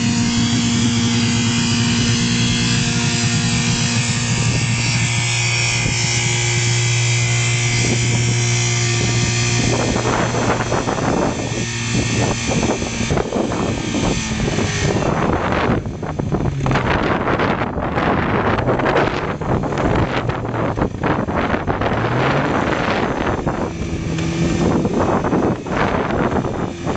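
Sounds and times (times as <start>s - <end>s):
car engine revving high: 0.0s - 26.9s
engine rough irregular clatter: 0.0s - 26.9s.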